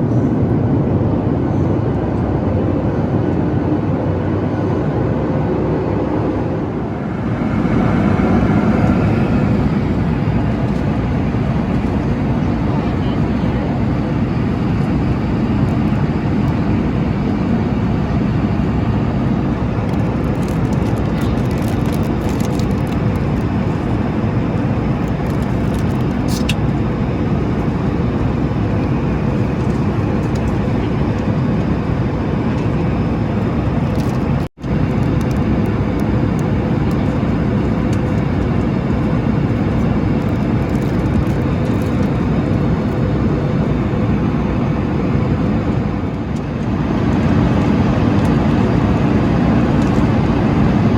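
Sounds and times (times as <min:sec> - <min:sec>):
airplane cabin drone: 0:00.0 - 0:50.9.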